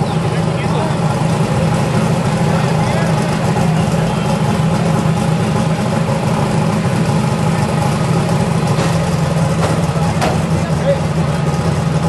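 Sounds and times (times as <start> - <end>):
truck engines idling: 0.0 - 12.0.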